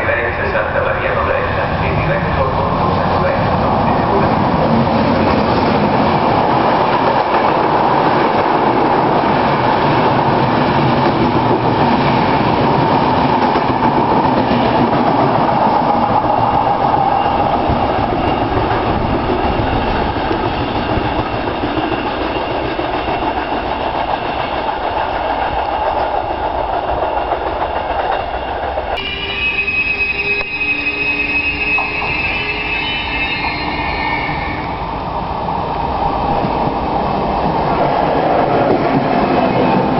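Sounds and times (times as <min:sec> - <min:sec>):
train rushing past on rails: 0:00.0 - 0:39.9.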